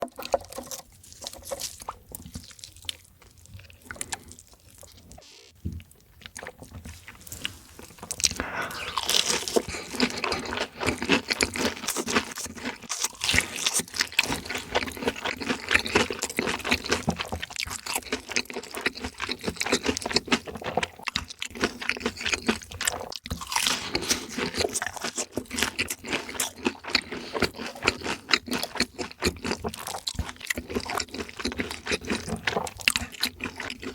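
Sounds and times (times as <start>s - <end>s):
crunching fried chicken: 0.0s - 33.9s.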